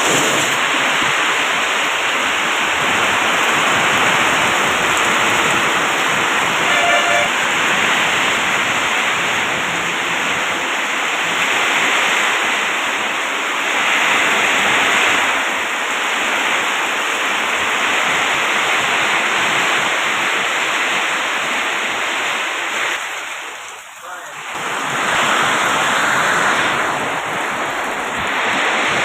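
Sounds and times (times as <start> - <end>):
heavy rain pouring down: 0.0 - 29.0.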